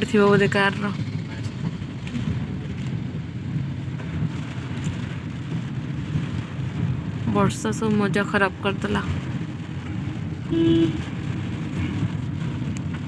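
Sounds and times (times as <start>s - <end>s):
car running: 0.0s - 13.0s
heavy rain: 0.0s - 13.0s.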